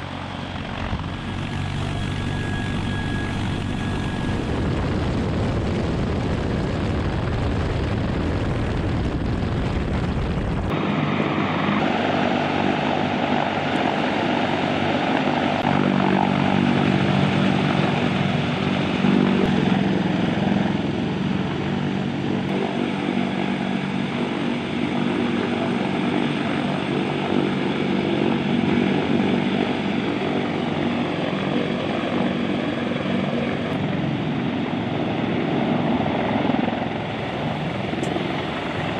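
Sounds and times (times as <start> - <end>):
helicopter rotor and turbine drone: 0.0 - 38.9.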